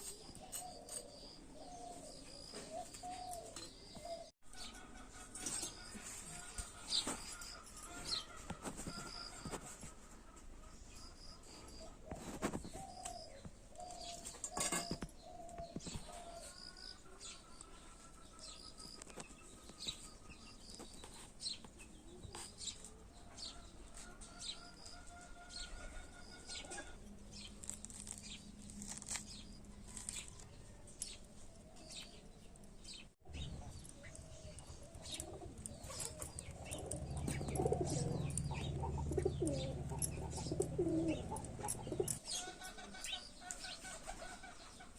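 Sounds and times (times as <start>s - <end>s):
birds chirping and calling: 0.0s - 44.9s.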